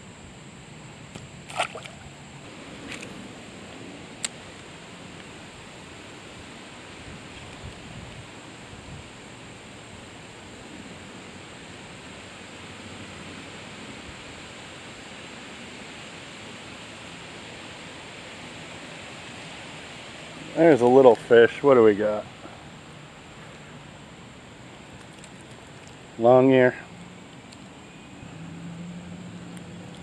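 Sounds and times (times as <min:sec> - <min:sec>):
flowing creek water: 0:01.1 - 0:30.0.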